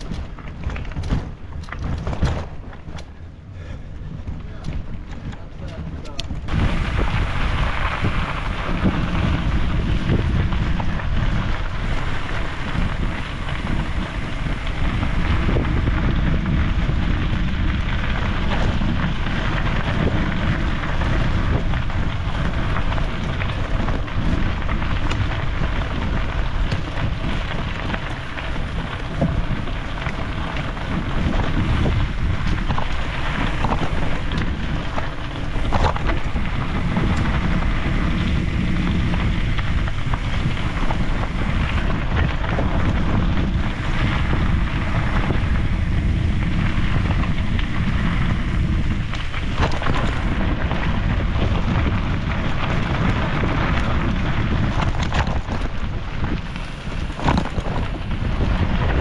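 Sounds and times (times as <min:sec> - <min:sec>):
bicycle tyre and trail noise: 0:00.0 - 0:59.0
wind buffeting microphone: 0:00.0 - 0:59.0.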